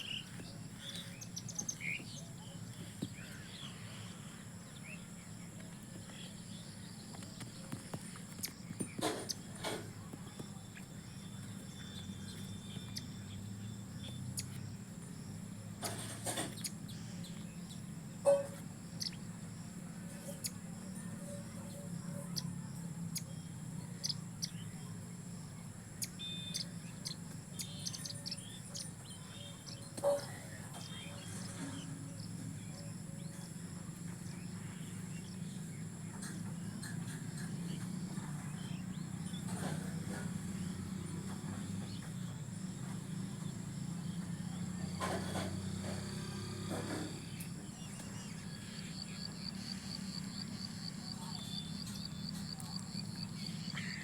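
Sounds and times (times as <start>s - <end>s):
bird chirps: 0.0s - 19.4s, 20.0s - 54.0s
insect drone: 0.0s - 54.0s.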